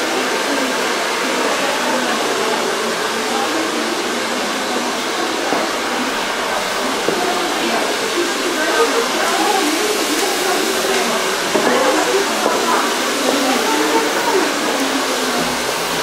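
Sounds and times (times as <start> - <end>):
faint background chatter: 0.0 - 16.0
hair dryer running: 0.0 - 16.0.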